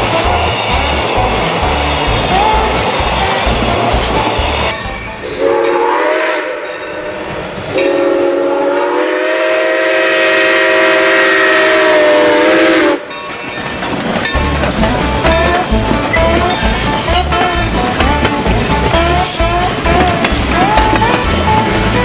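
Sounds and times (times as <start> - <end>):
steam locomotive chime whistle: 0.0 - 22.0.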